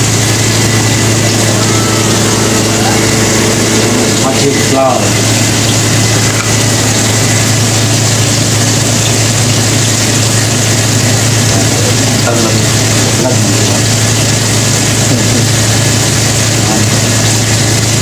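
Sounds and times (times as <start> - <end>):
low hum: 0.0 - 15.8
hot oil sizzling: 0.0 - 18.0.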